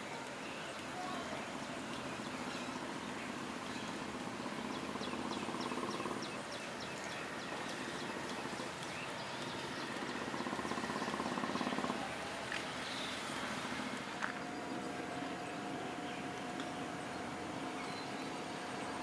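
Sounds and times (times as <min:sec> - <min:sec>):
pulsing low hum: 0:02.7 - 0:19.0.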